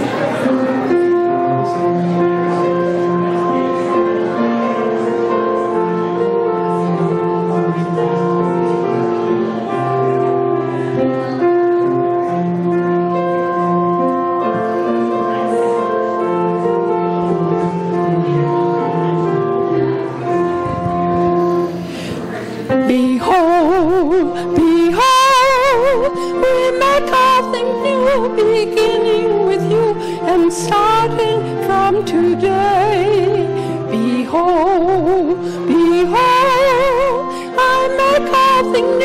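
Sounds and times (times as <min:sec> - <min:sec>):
slow piano and keyboard music: 0:00.0 - 0:39.0.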